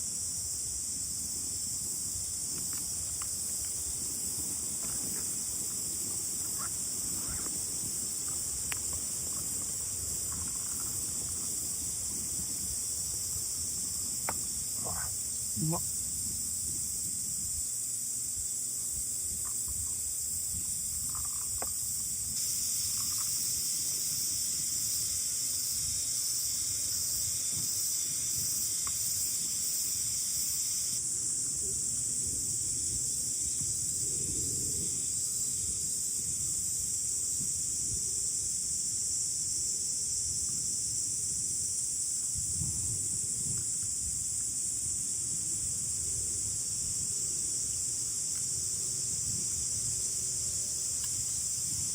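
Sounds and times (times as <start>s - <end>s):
insects trilling: 0.0s - 51.9s
wind rumble on microphone: 0.0s - 51.9s.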